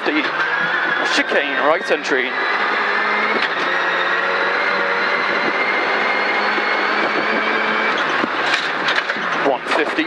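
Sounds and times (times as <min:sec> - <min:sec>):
rally car engine at high revs: 0:00.0 - 0:10.0
road and tyre noise: 0:00.0 - 0:10.0.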